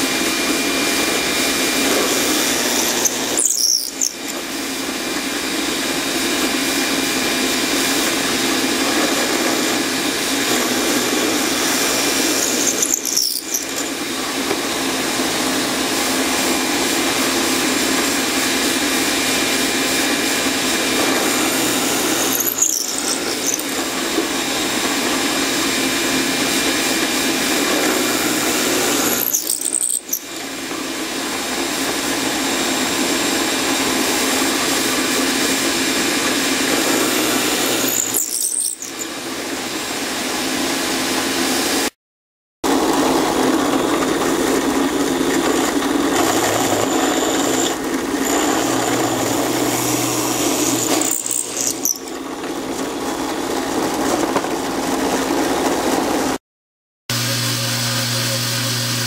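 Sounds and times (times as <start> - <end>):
drill press boring into wood: 0.0 - 41.0, 42.7 - 54.2.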